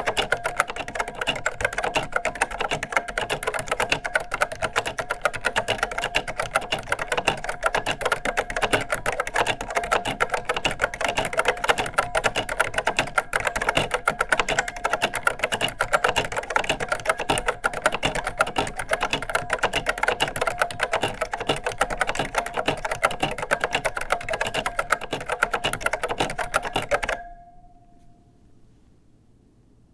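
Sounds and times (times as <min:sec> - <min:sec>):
fast typing on keyboard: 0:00.0 - 0:27.2.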